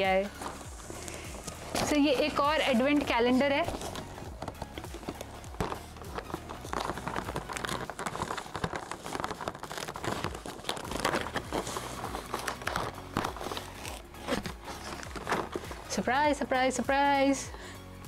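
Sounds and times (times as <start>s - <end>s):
cardboard tearing and crinkling: 0.2s - 15.9s.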